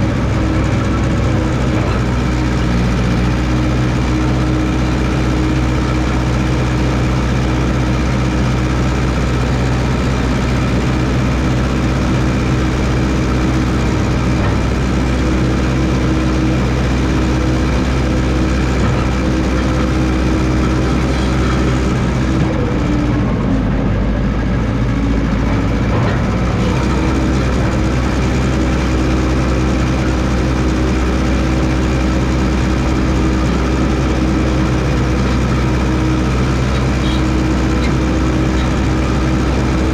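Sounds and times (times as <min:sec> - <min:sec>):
dozer engine running: 0:00.0 - 0:39.9.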